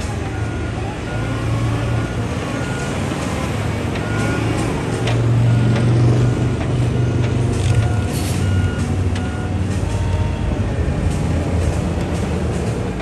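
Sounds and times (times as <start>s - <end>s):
reversing alarm beeping: 0.0s - 11.2s
diesel engine running: 0.0s - 13.0s.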